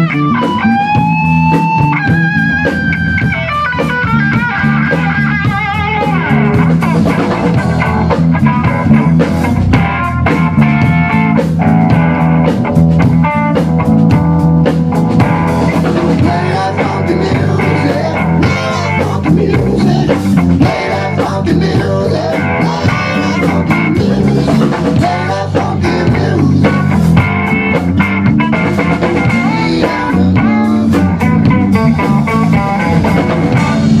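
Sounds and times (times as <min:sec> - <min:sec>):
drum kit: 0:00.0 - 0:34.0
electric bass: 0:00.0 - 0:34.0
electric guitar: 0:00.0 - 0:34.0.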